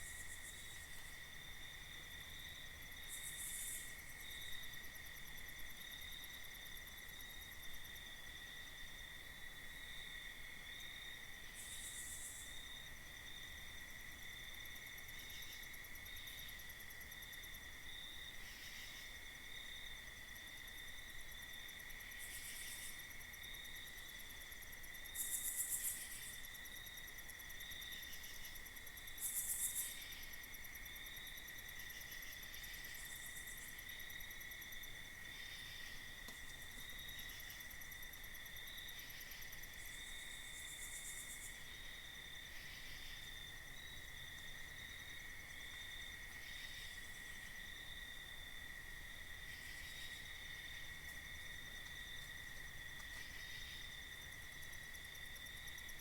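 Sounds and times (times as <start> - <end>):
crickets trilling: 9.5 - 56.0.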